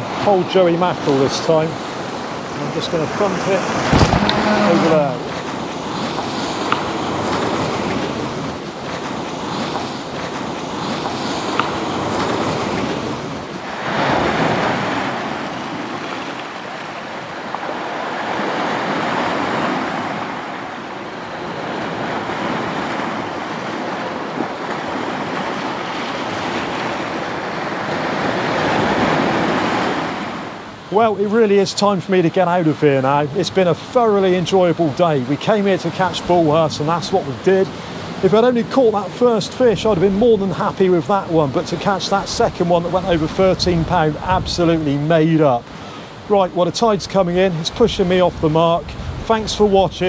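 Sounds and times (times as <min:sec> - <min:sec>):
waves breaking on pebble shore: 0:00.0 - 0:31.2, 0:32.8 - 0:50.0.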